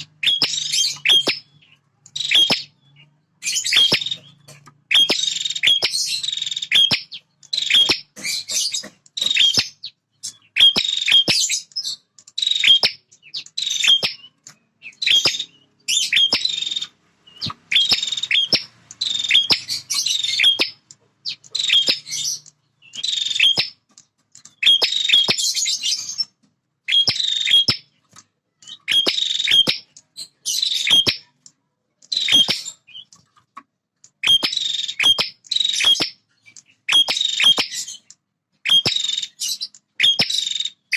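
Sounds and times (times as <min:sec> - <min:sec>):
bird singing: 0:00.0 - 0:33.4, 0:34.0 - 0:40.9
sharp clicks: 0:00.0 - 0:40.9.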